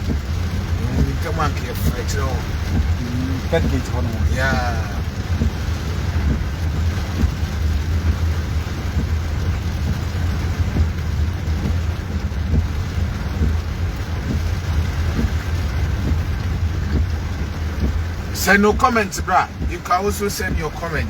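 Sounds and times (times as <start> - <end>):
rain hiss: 0.0 - 21.0
vehicle rumble: 0.0 - 21.0.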